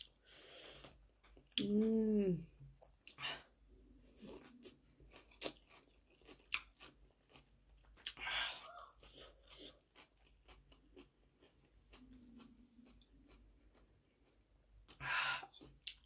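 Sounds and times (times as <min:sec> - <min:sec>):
person chewing cucumber: 0:00.8 - 0:01.7, 0:02.6 - 0:16.0.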